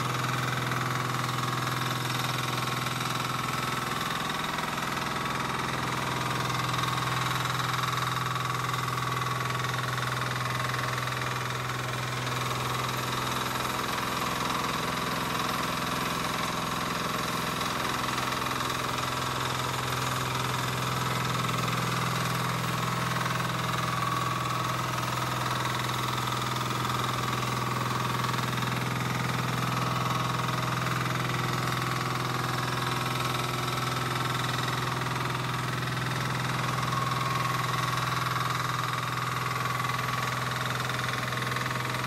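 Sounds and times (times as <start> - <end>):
small mower engine running: 0.0 - 42.0.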